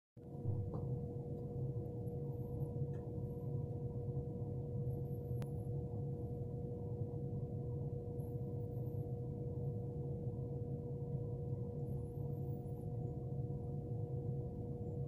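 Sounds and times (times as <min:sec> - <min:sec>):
constant mid-pitched tone: 0:00.2 - 0:15.0
steady low hum: 0:00.2 - 0:15.0.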